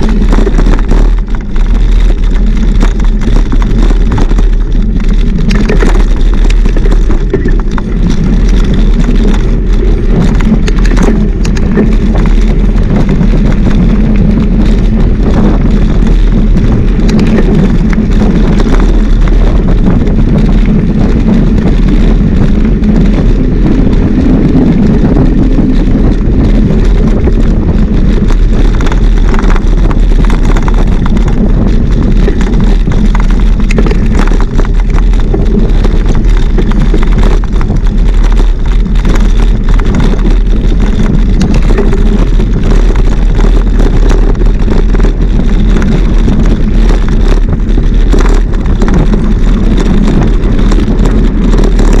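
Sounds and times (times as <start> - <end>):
small rattles and clicks: 0.0 - 52.0
wind buffeting microphone: 0.0 - 52.0.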